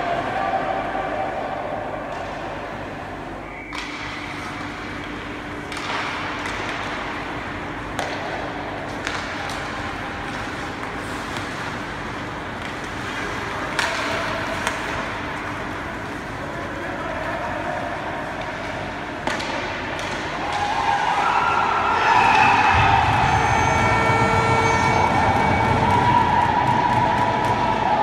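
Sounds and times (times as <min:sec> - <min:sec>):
hockey sticks and puck clacking: 0:02.0 - 0:02.8, 0:03.5 - 0:28.0.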